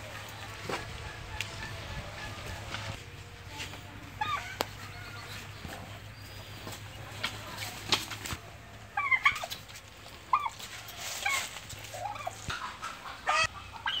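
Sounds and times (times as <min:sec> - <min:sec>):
turkeys calling: 0:00.0 - 0:03.0, 0:04.0 - 0:08.1, 0:08.8 - 0:14.0.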